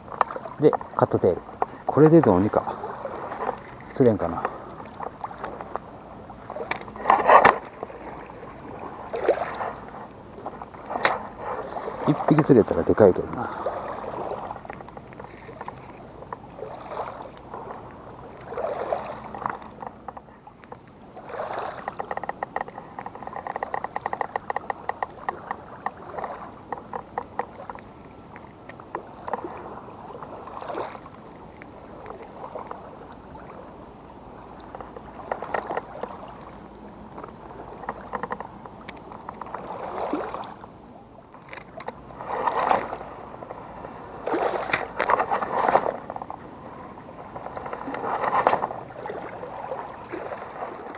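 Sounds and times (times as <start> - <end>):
lake water lapping on shore: 0.0 - 50.9.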